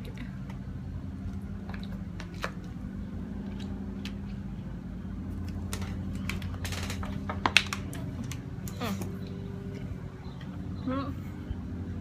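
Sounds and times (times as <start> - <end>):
lawnmower engines droning: 0.0 - 12.0.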